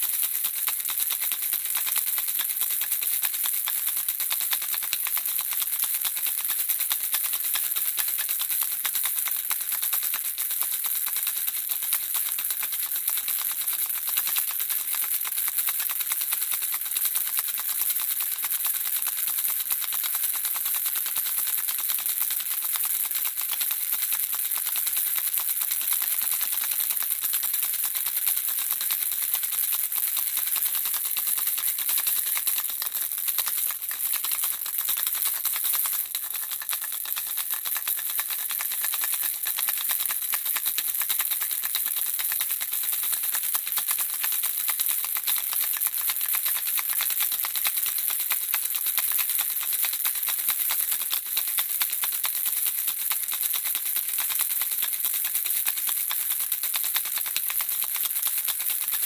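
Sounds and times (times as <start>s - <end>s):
baby rattle shaken: 0.0s - 59.0s.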